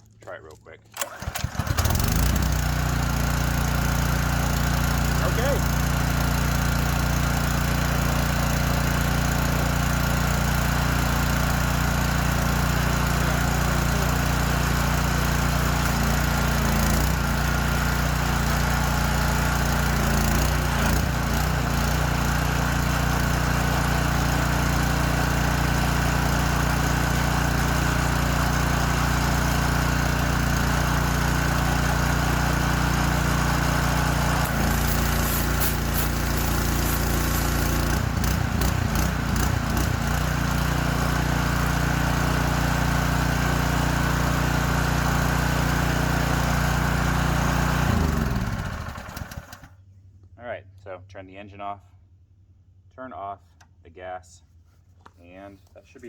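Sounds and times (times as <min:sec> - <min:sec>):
pressure washer engine running: 0:01.0 - 0:49.7.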